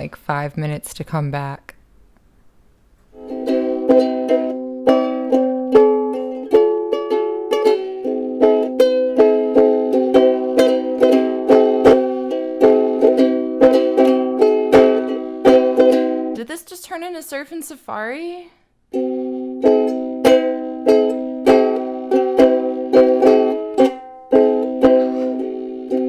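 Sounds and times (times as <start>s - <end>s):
ukulele strumming chords: 3.1s - 18.3s, 18.9s - 26.0s.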